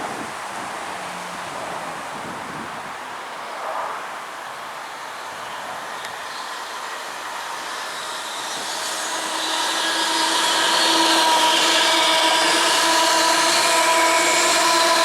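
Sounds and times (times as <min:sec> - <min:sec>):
train approaching with whine: 0:00.0 - 0:15.0.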